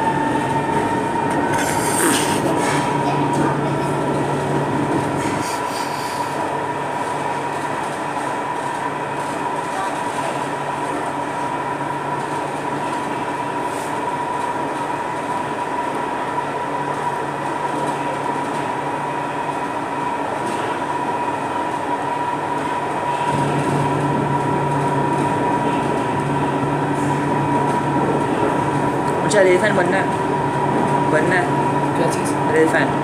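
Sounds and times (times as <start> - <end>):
train rolling rumble: 0.0 - 33.0.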